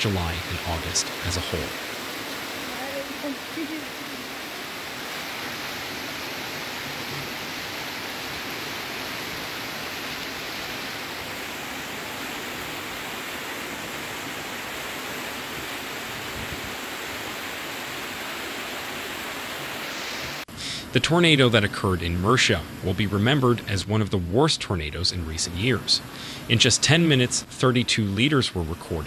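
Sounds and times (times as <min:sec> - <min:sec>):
floodwater rushing and splashing: 0:00.0 - 0:29.0.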